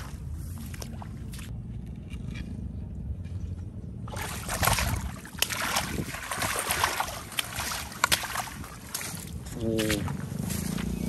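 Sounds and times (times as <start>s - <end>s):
water splashing and sloshing: 0.0s - 2.4s, 3.0s - 11.0s
wind rumble on microphone: 0.0s - 11.0s.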